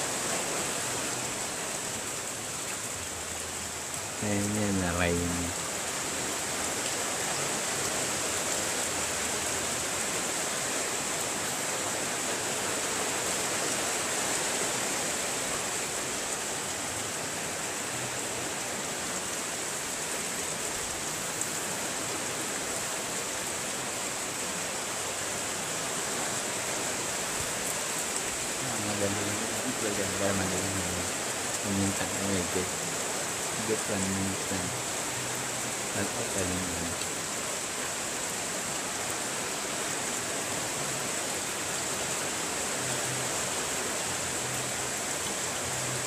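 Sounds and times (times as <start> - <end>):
rain falling steadily: 0.0 - 46.0.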